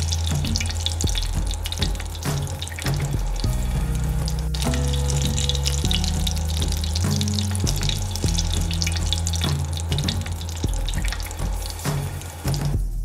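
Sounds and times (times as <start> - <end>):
batter sizzling in hot butter: 0.0 - 12.8
background music low notes: 0.0 - 13.0.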